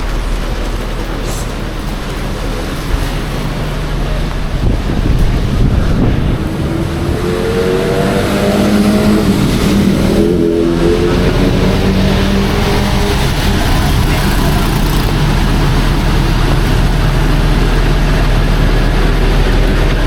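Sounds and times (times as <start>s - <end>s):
heavy rain hiss: 0.0s - 20.0s
vehicle engine running: 0.0s - 20.0s.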